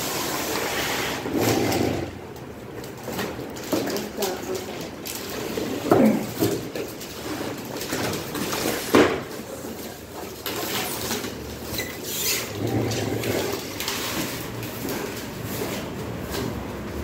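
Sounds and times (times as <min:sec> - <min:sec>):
refrigerator scraping on tiled floor: 0:00.0 - 0:02.3, 0:03.0 - 0:17.0.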